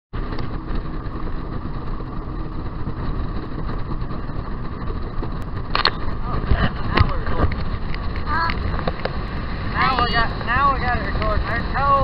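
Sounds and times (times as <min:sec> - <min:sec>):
boat motor running: 0:00.1 - 0:12.0
rushing noise: 0:00.2 - 0:12.0.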